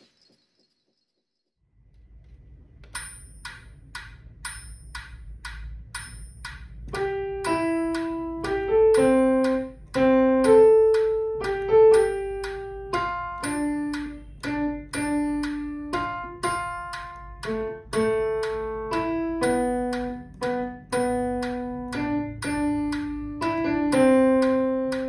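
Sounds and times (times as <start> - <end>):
metronome clicking: 2.8 - 25.0
digital piano melody: 3.0 - 25.0.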